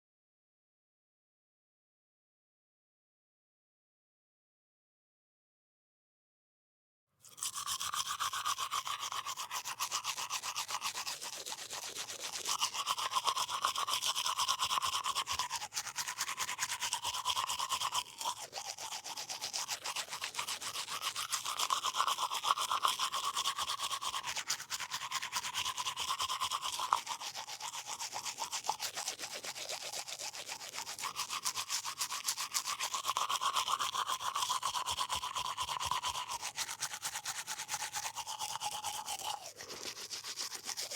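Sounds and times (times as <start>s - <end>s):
toothbrush scrubbing teeth: 7.2s - 40.9s.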